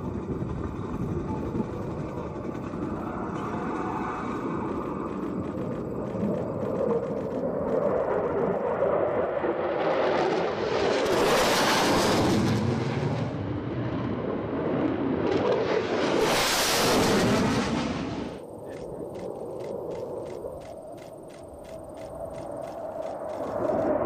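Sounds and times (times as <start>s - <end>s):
jet flying overhead: 0.0s - 24.0s.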